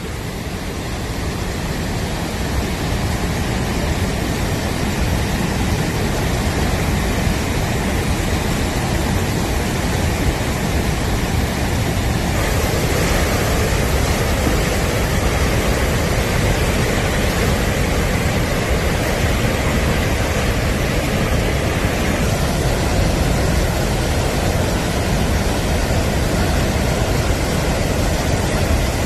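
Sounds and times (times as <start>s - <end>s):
water rushing over spillway: 0.0s - 29.0s.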